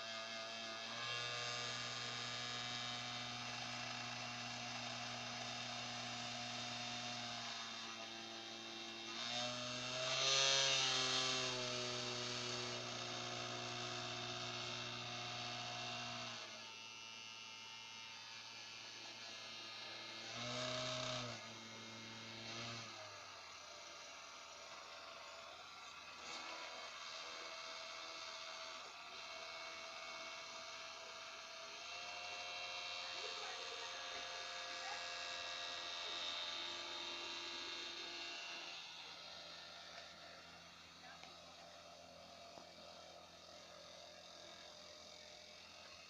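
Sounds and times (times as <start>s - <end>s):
small electric motor humming and whining: 0.0s - 46.0s.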